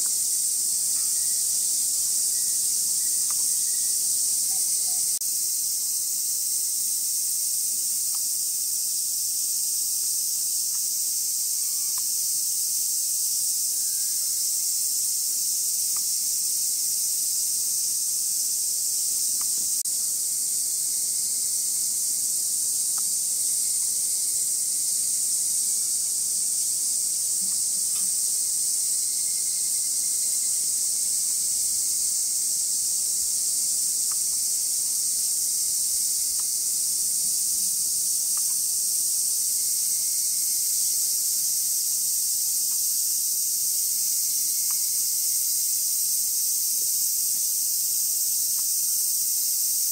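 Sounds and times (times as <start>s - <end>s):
cicadas buzzing: 0.0s - 49.9s.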